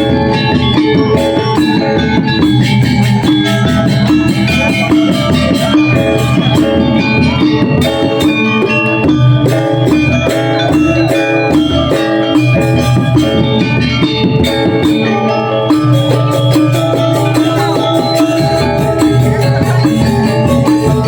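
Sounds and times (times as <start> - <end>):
metallophone notes ringing: 0.0 - 21.0.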